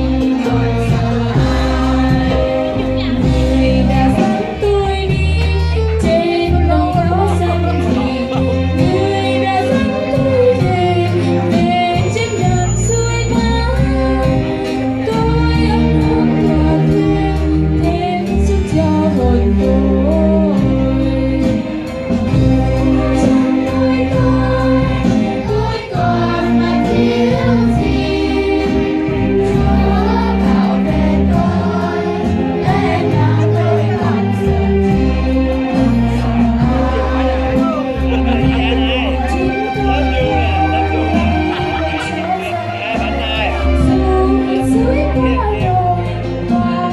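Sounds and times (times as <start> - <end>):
children's choir singing a hymn: 0.0 - 46.9
instrumental accompaniment with bass: 0.0 - 46.9.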